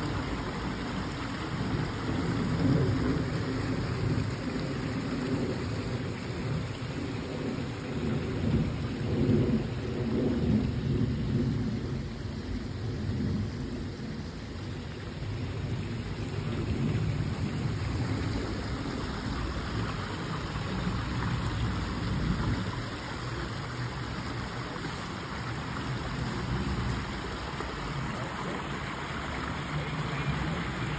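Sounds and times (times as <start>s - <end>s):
creek water rushing over stones: 0.0s - 30.9s.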